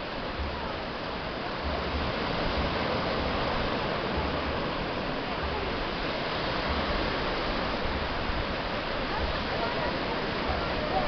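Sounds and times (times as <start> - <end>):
low rumble of waves: 0.0 - 11.0
surf washing on beach: 0.0 - 11.0.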